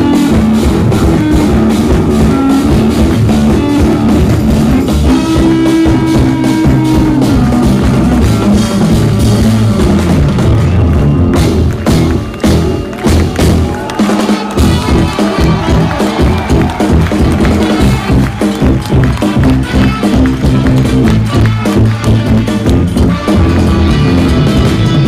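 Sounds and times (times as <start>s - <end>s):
jazz-fusion band playing live: 0.0s - 25.0s.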